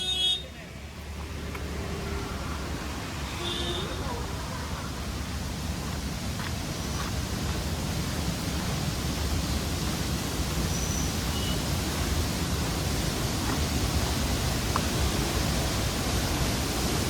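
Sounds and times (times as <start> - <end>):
waterfall roaring: 0.8 - 17.0.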